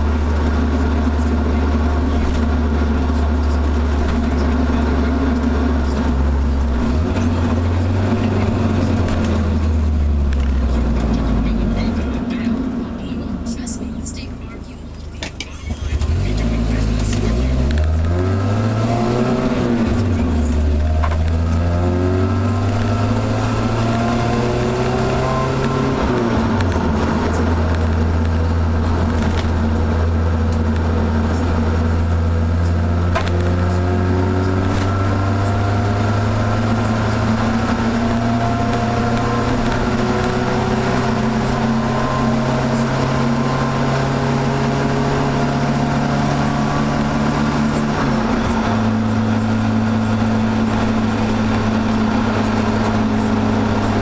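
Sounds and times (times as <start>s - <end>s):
car engine and exhaust: 0.0s - 54.0s.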